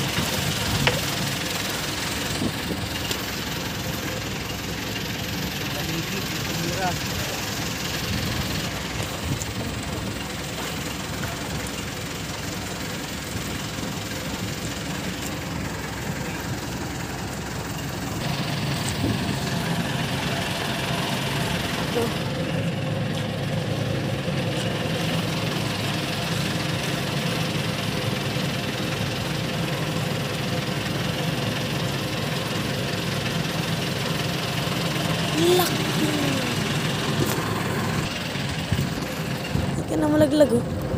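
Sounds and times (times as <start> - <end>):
boat engine idling: 0.0 - 40.9.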